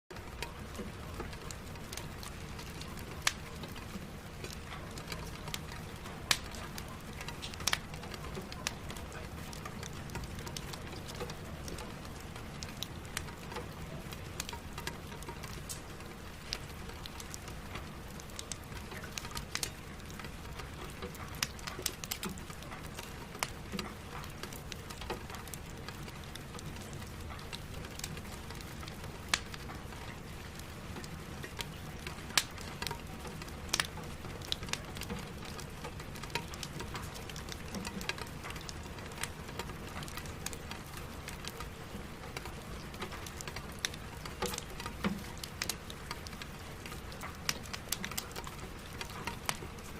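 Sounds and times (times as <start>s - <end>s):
rain on a window: 0.1s - 49.9s
wood fire crackling and popping: 0.1s - 49.9s.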